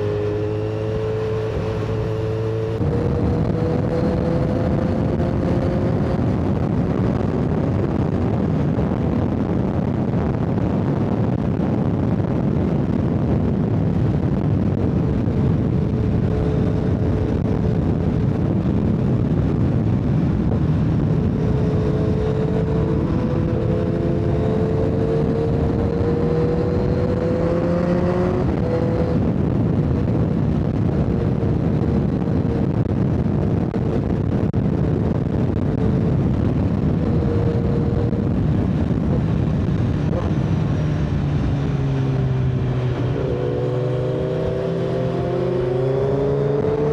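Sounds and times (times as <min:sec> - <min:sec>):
motorcycle engine running: 0:00.0 - 0:09.9, 0:13.8 - 0:46.9
wind and road noise: 0:00.0 - 0:46.9.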